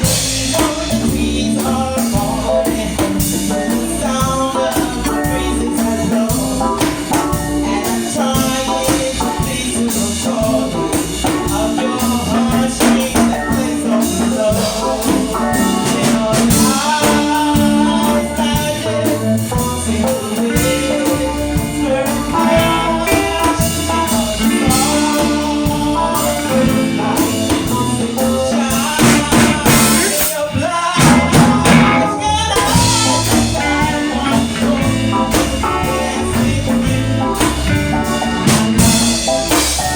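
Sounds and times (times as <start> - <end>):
drums: 0.0 - 39.9
live band playing: 0.0 - 39.9
person singing: 0.0 - 39.9.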